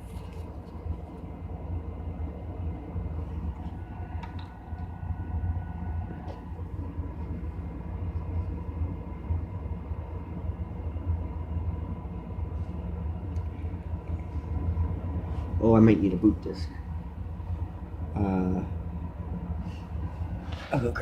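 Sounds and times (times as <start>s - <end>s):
computer mechanical hum: 0.0s - 21.0s.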